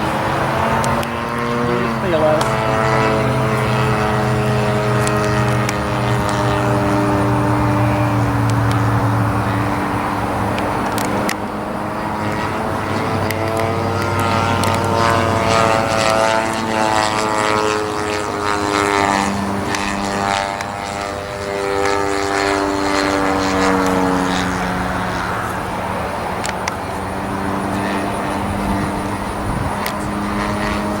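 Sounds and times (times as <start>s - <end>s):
model airplane engine and propeller: 0.0s - 31.0s.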